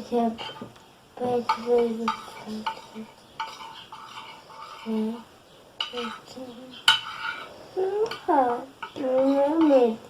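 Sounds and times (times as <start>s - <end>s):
utensil stirring in a bowl: 0.2s - 10.0s.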